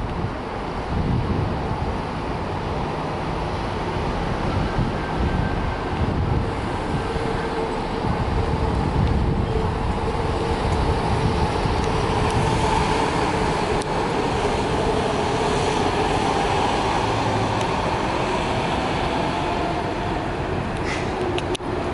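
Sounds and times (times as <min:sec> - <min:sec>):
street traffic noise: 0:00.0 - 0:21.9.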